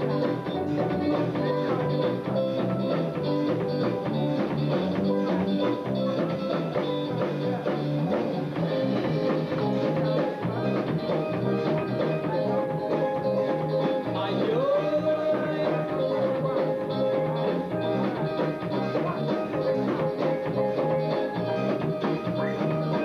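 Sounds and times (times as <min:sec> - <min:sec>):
drum kit beat: 0:00.0 - 0:23.0
electric guitars: 0:00.0 - 0:23.0.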